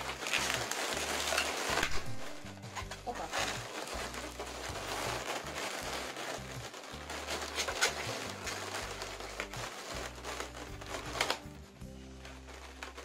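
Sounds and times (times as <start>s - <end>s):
balloon squeaks: 0.0s - 13.0s
balloons rubbing and creaking: 0.0s - 13.0s.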